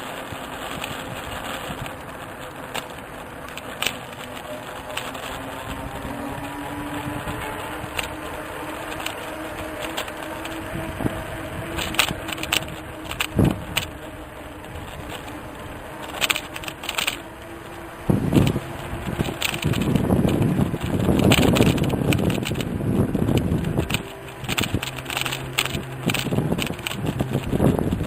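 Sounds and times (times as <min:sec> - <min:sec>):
knocks and rattles: 0:00.0 - 0:28.0
road noise: 0:00.0 - 0:28.0
vehicle engine hum: 0:00.0 - 0:28.0.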